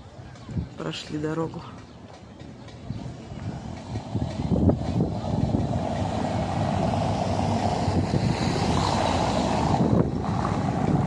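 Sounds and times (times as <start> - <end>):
wind buffeting microphone: 0.0 - 11.0
car tyres on paved road: 1.9 - 11.0.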